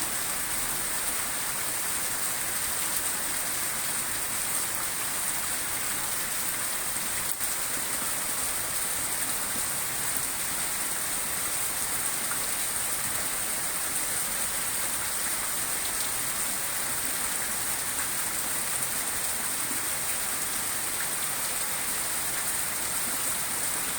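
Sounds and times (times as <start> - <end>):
rain falling steadily: 0.0 - 23.9.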